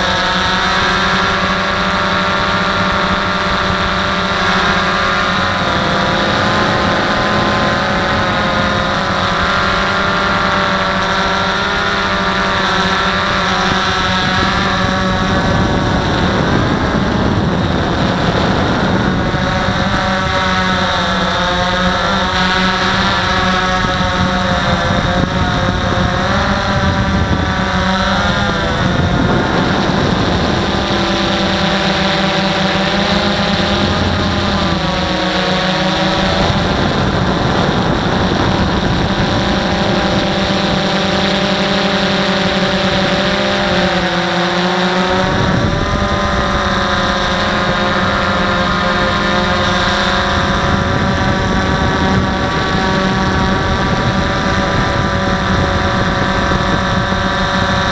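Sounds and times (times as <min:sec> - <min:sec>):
drone propellers whining: 0:00.0 - 0:57.9.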